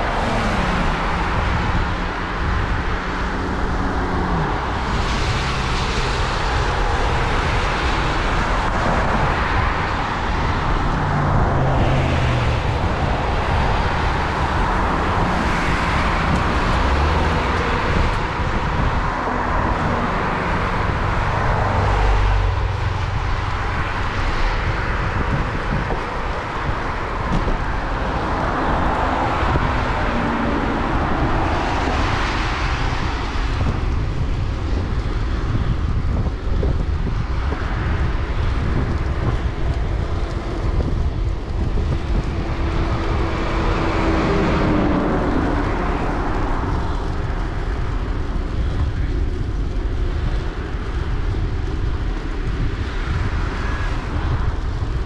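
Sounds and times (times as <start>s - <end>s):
constant low rumble: 0.0s - 55.0s
passing cars on wet road: 0.0s - 55.0s.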